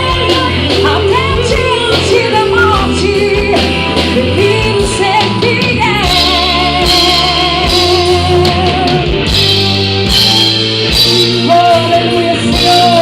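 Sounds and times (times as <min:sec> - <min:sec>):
bass: 0:00.0 - 0:13.0
drum kit: 0:00.0 - 0:13.0.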